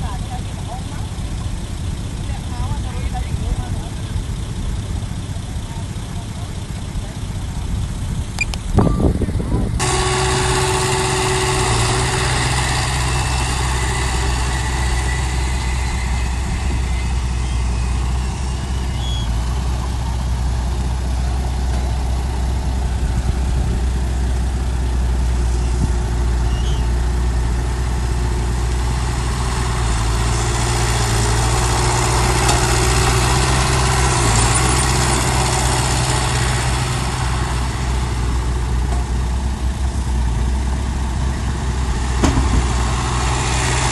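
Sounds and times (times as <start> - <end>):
heavy diesel engine droning: 0.0 - 43.9.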